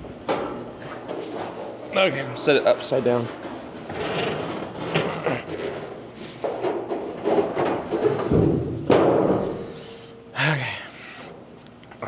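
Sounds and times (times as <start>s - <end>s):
metal hood knocking and scraping: 0.0s - 10.0s.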